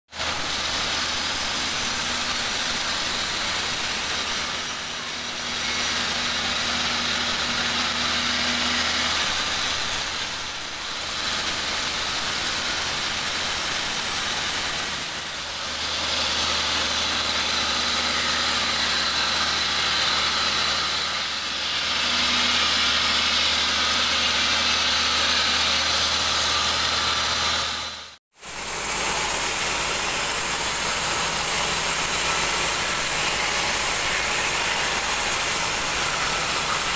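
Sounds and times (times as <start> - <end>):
saw blade hissing through wood: 0.1 - 36.9
band saw motor hum: 0.2 - 36.9.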